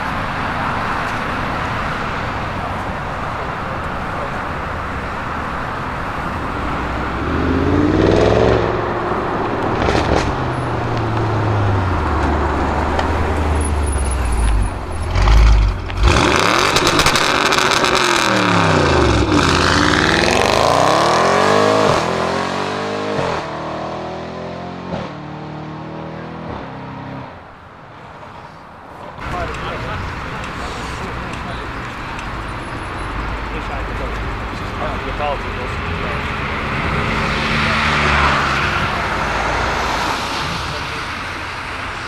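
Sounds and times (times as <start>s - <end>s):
car engine revving: 0.0s - 27.2s, 29.2s - 42.0s
exhaust cracks: 0.3s - 22.1s, 29.2s - 42.0s.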